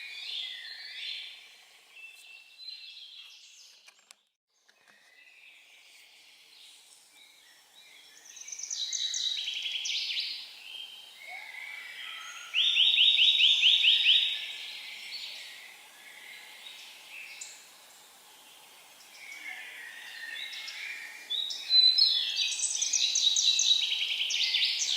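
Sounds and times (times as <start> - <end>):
songbirds singing: 0.0 - 24.9
faint background hiss: 4.7 - 24.9.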